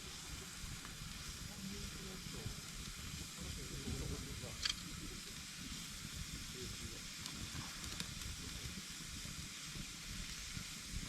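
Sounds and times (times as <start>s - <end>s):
fire crackles: 0.0s - 11.0s
wood fire hissing: 0.0s - 11.0s.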